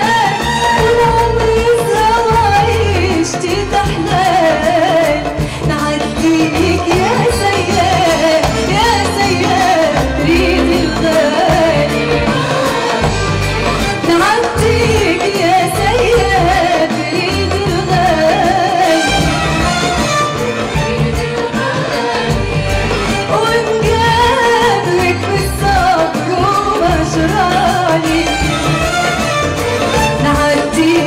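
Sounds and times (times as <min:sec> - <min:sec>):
band bass accompaniment: 0:00.0 - 0:31.0.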